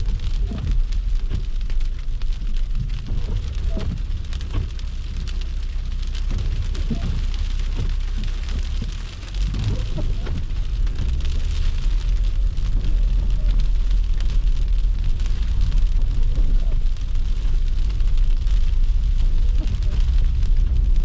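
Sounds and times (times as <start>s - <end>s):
car driving rumble: 0.0s - 21.0s
road noise hiss: 0.0s - 21.0s.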